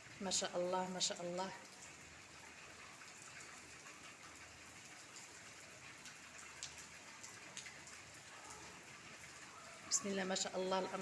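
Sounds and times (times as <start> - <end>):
raindrops ticking: 0.0 - 11.0.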